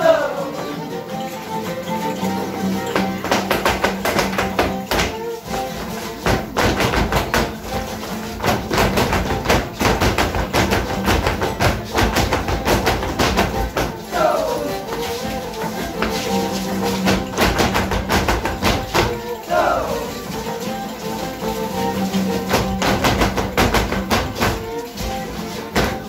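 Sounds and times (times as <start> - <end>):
traditional dance music: 0.0 - 26.0
feet stamping on a hard floor: 2.9 - 26.0.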